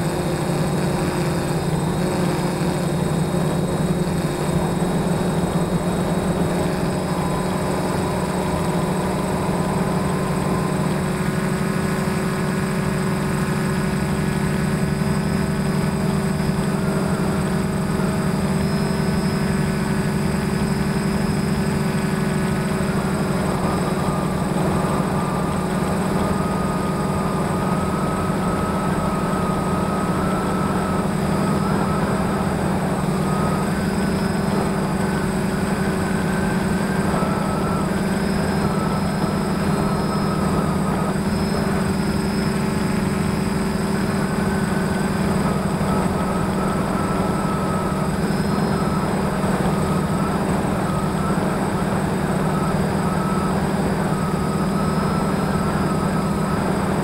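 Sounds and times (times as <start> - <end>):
drone motors humming: 0.0 - 57.0.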